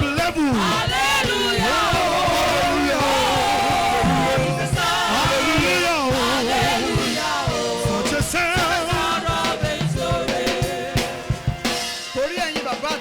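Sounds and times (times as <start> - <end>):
band accompaniment: 0.0 - 13.0
gospel choir singing: 0.0 - 13.0
steady drum beat: 0.0 - 13.0.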